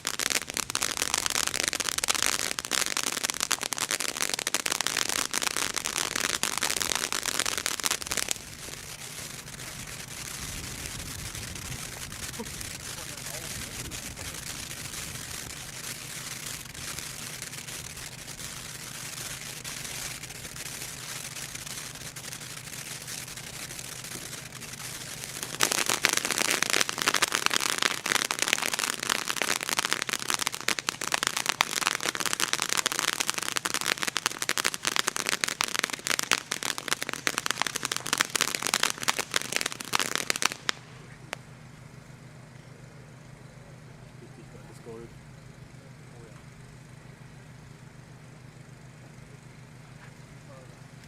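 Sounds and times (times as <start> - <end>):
firework hissing: 0.0 - 43.4, 44.1 - 51.0
firework crackling: 0.0 - 51.0.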